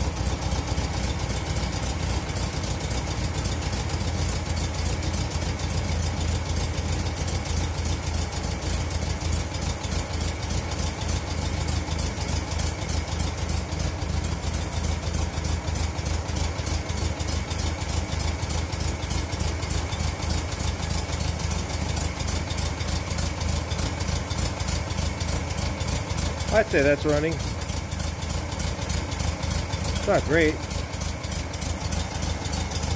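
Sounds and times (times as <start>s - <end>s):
engine idling roughly: 0.0s - 32.9s.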